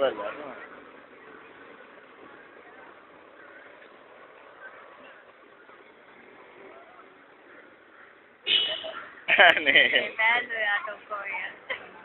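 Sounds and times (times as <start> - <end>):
low traffic hum: 0.0 - 12.0.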